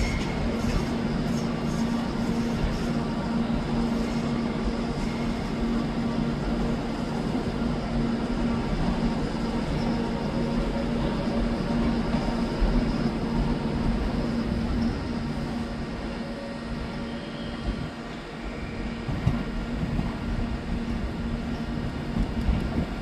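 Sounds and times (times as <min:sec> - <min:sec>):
train running: 0:00.0 - 0:23.0.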